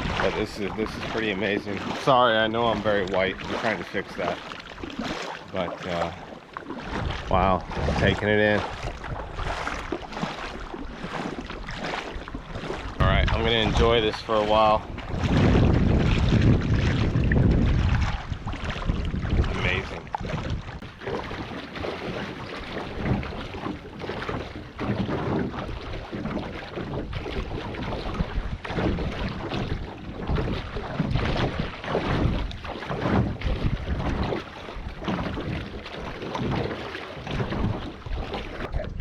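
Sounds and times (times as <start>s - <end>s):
wind buffeting microphone: 0.0s - 6.2s, 6.8s - 39.0s
lake water splashing and lapping: 0.0s - 39.0s.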